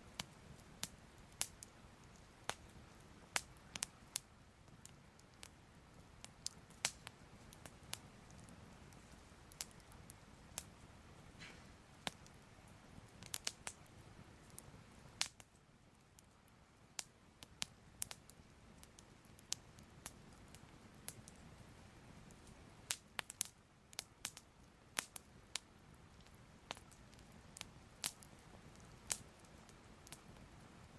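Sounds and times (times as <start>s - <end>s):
fire crackling and popping: 0.0s - 30.9s.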